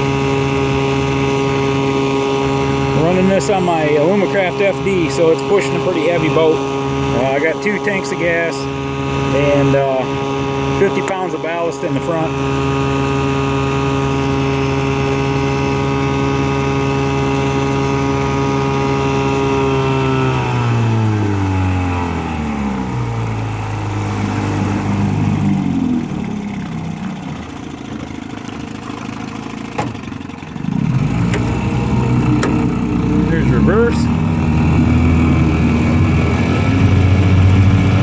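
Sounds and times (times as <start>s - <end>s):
outboard motor running: 0.0s - 38.0s.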